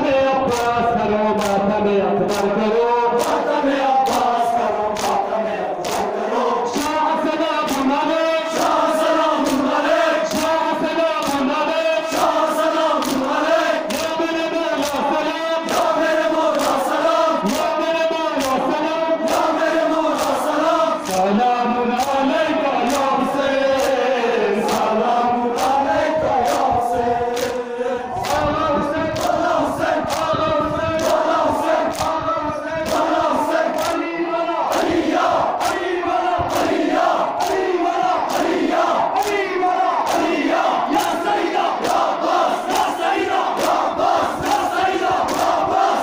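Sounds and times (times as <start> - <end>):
men chanting in unison: 0.0 - 46.0
rhythmic chest-beating: 0.2 - 46.0.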